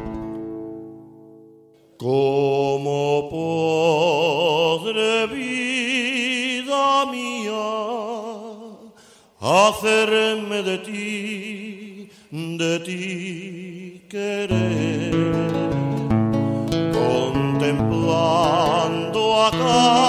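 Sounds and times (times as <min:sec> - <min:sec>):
person singing with vibrato: 0:01.9 - 0:20.0.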